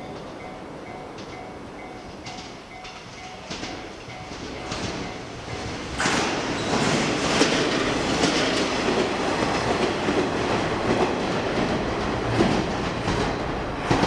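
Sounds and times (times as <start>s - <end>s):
railcar rumbling past: 0.0s - 14.0s
wheels clacking over rail joints: 0.0s - 14.0s.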